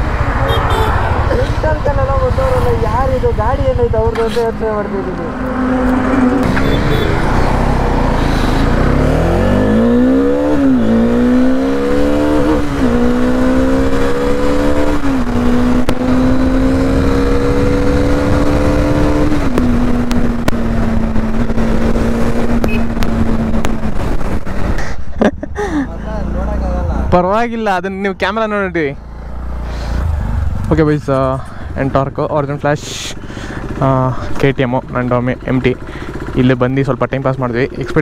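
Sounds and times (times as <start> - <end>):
motorcycle engine accelerating: 0.0 - 25.5, 28.4 - 38.0.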